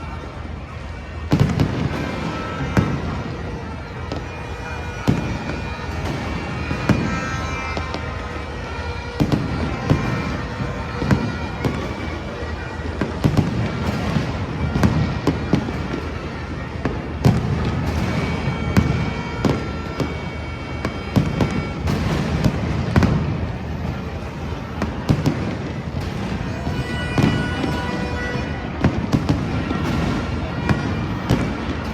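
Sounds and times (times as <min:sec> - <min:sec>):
fireworks sharp bangs: 0:00.0 - 0:31.9.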